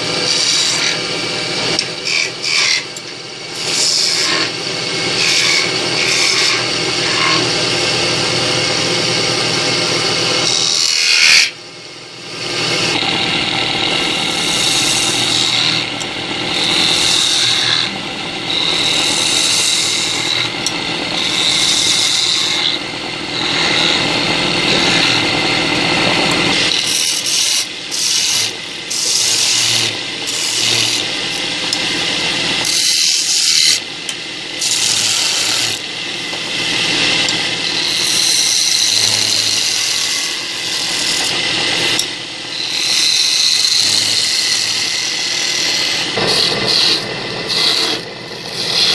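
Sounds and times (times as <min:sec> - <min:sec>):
chisel cutting wood on lathe: 0:00.0 - 0:11.6, 0:12.3 - 0:48.9
lathe whine: 0:00.0 - 0:48.9.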